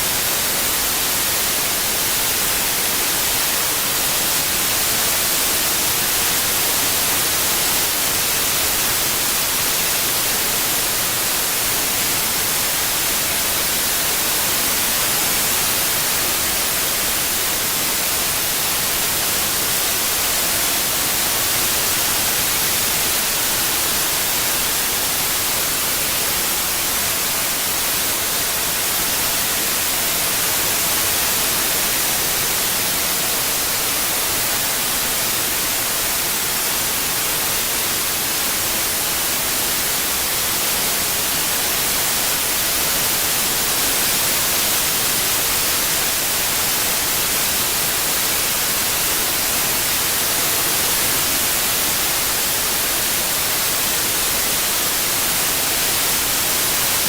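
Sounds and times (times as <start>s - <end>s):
synthetic white noise hiss: 0.0s - 57.0s.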